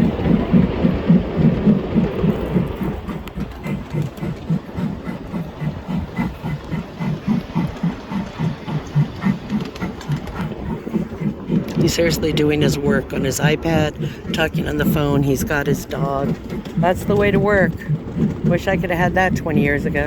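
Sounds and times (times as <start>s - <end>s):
ride-on train clattering: 0.0s - 20.0s.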